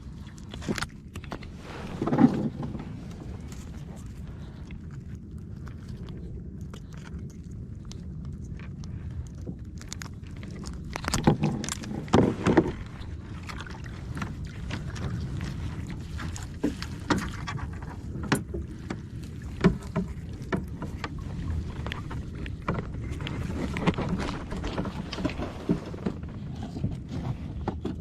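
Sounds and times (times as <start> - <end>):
steady low rumble: 0.0 - 28.0
water lapping against kayak hull: 0.0 - 28.0.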